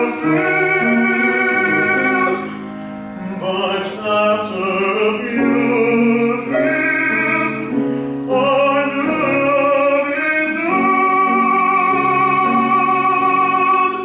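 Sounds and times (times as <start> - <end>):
tenor voice singing: 0.0 - 14.0.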